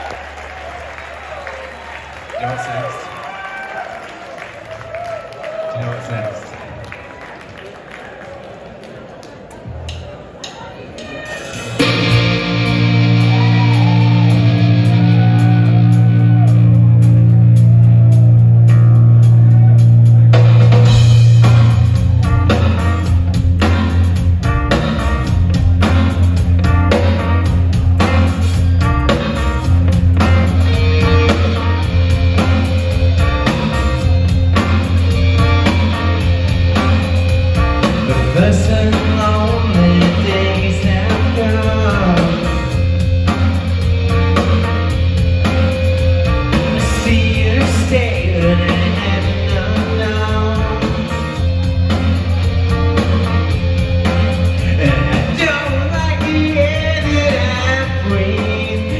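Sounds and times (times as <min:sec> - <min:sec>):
rock band playing: 0:11.1 - 0:58.9
drum kit steady beat: 0:11.4 - 0:58.9.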